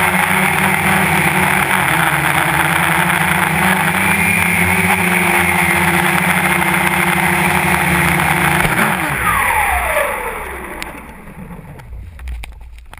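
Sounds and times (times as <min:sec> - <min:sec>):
drone motors spinning down: 0:00.0 - 0:12.9.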